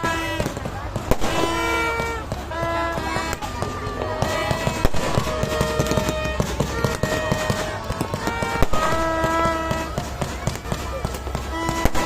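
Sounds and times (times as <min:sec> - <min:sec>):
fireworks bangs: 0:00.0 - 0:12.0
fireworks crackling and popping: 0:00.0 - 0:12.0.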